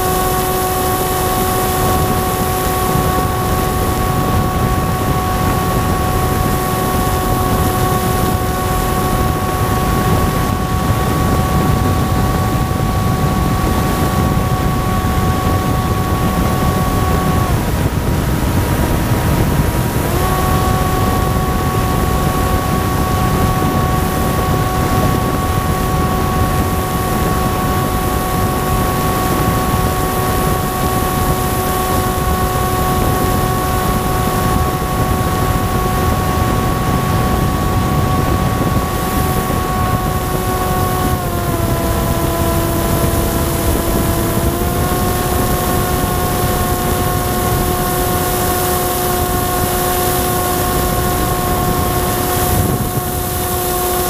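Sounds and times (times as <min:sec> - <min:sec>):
electric motor and propeller: 0:00.0 - 0:54.0
wind rush: 0:00.0 - 0:54.0.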